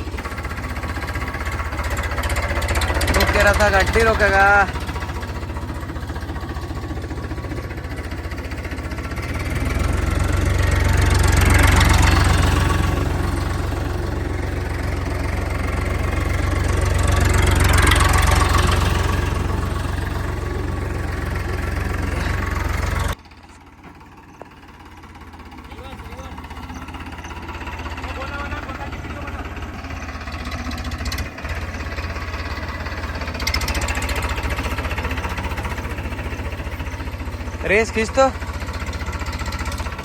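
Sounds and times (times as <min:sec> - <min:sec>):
tractor engine chugging: 0:00.0 - 0:40.0.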